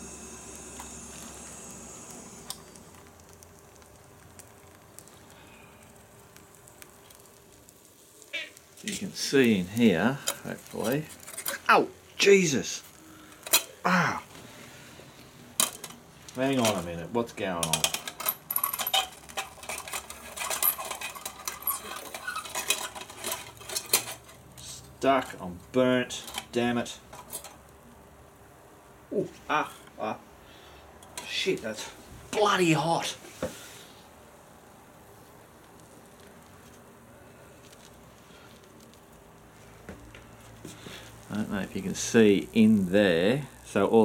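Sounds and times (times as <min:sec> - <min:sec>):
food sizzling in a pan: 0:00.0 - 0:17.8, 0:18.4 - 0:29.6, 0:31.0 - 0:43.9.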